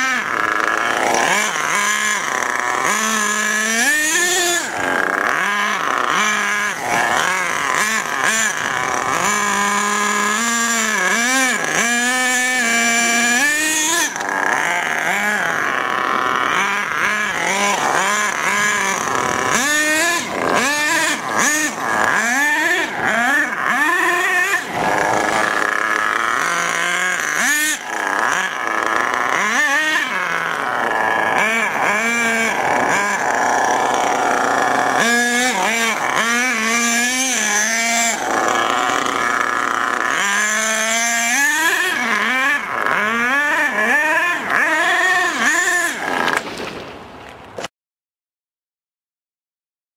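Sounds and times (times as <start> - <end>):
small engine revving: 0.0 - 47.7.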